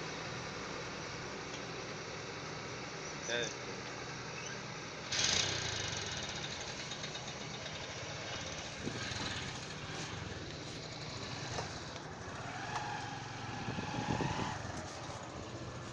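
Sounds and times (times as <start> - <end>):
diesel engine droning: 0.0 - 15.9.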